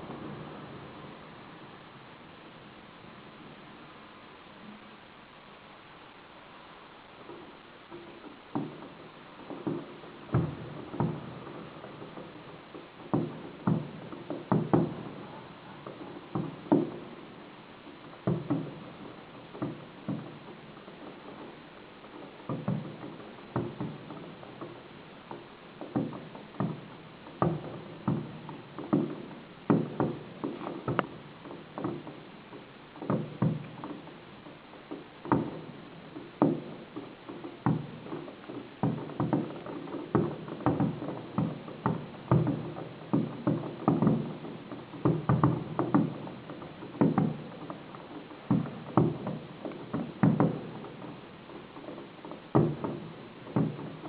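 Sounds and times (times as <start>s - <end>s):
fireworks bangs: 0.0s - 4.8s, 5.5s - 54.0s.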